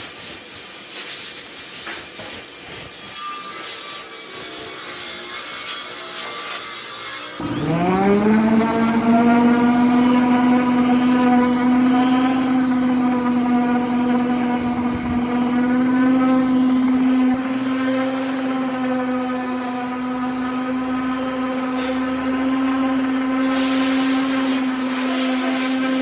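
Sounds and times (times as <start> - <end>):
power tool motor whine: 0.2 - 26.0.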